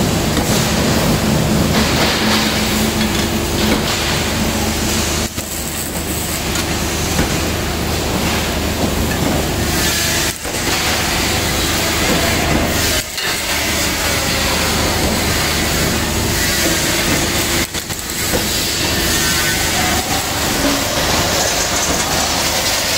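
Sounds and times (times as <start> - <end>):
press brake machine humming: 0.0 - 22.9.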